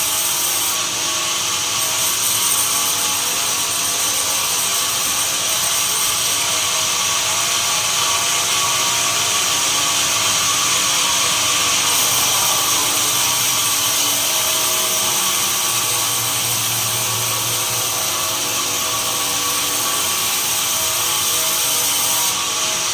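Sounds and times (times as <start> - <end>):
sawmill machinery running: 0.0 - 22.9
steady high machine tones: 0.0 - 22.9.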